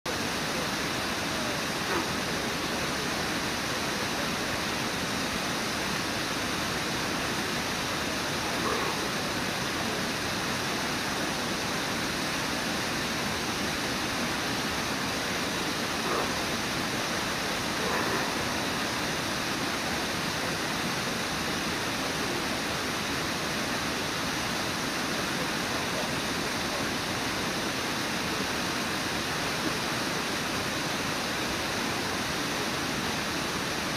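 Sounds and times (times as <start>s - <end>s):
waterfall and river rapids rushing: 0.1s - 33.9s.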